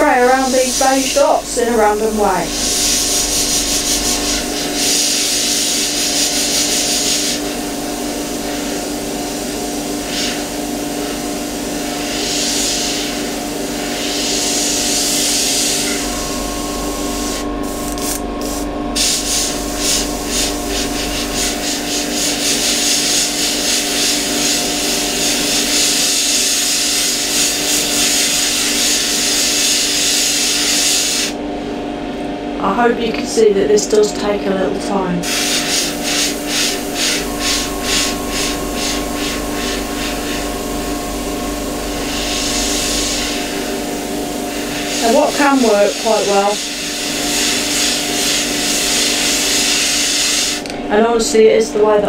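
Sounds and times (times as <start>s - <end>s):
air compressor hum: 0.0s - 51.2s
airbrush spraying hiss: 0.3s - 16.1s, 17.0s - 31.4s, 35.2s - 40.5s, 42.0s - 50.7s.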